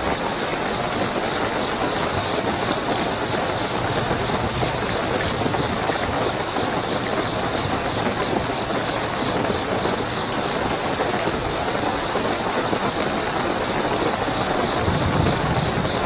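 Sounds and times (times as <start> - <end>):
heavy rainfall: 0.0 - 16.0
high-pitched cricket trill: 0.0 - 16.0.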